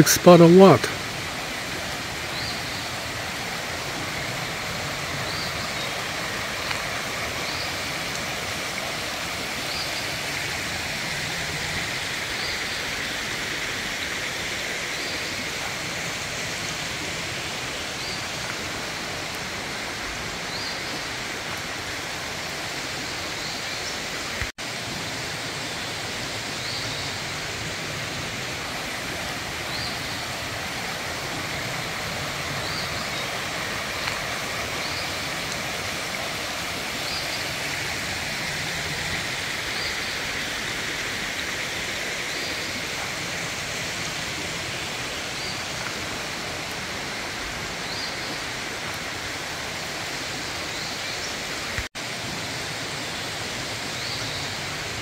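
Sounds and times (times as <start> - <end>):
creek rushing over stones: 0.0 - 55.0.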